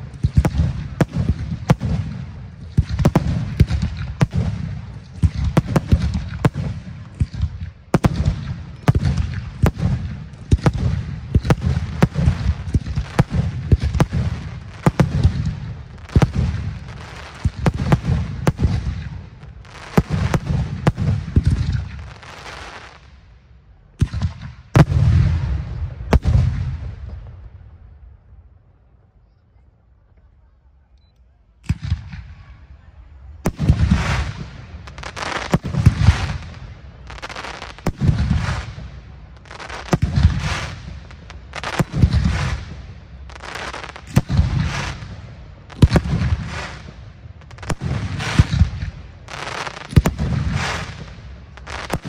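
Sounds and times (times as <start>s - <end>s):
fireworks bursting with sharp bangs: 0.0s - 28.0s, 31.6s - 52.0s.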